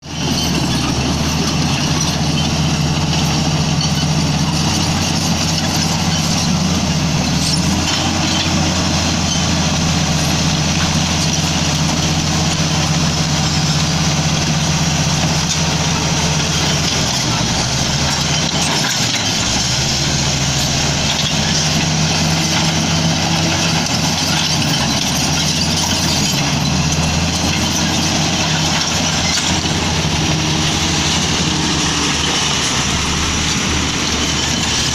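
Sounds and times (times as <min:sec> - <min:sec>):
bulldozer diesel engine running: 0:00.0 - 0:34.9.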